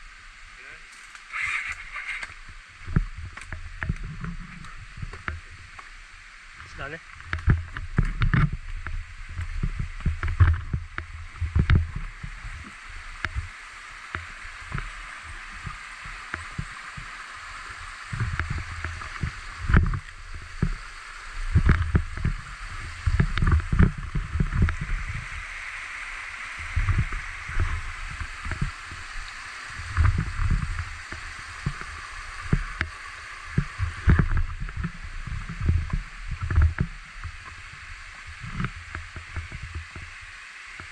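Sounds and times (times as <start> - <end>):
stream rushing: 0.0 - 40.9
low thumps and rumbles: 2.3 - 16.8, 18.1 - 25.6, 26.6 - 40.2.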